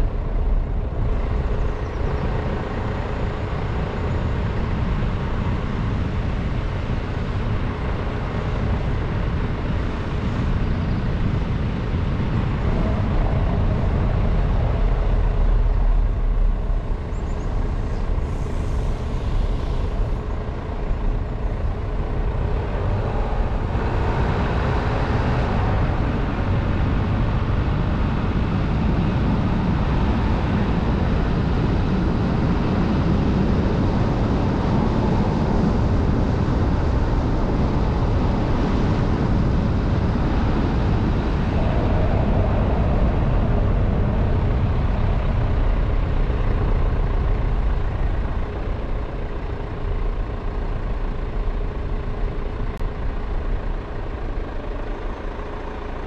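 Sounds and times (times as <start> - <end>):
car engine running: 0.0 - 56.0
road and tyre noise: 0.0 - 56.0
tyres rumbling over cobblestones: 0.0 - 56.0.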